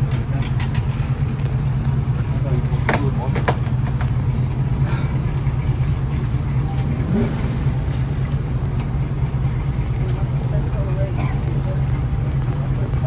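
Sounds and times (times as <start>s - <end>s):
loud low engine drone: 0.0s - 13.0s.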